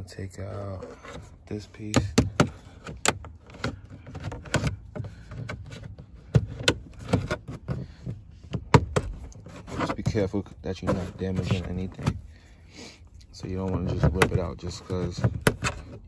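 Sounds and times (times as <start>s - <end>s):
plastic rubbing and scraping: 0.3s - 16.0s.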